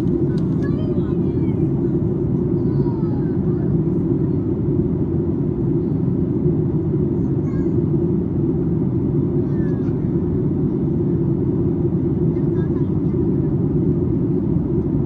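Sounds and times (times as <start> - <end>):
airplane cabin noise: 0.0 - 15.0.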